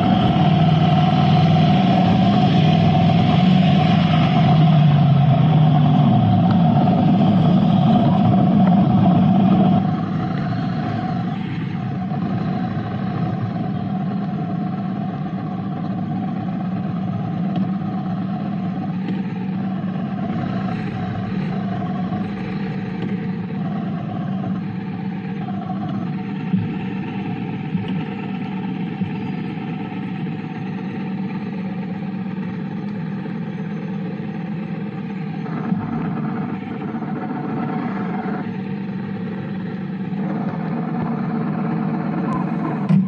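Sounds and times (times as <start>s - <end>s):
motorcycle running on road: 0.0s - 43.0s.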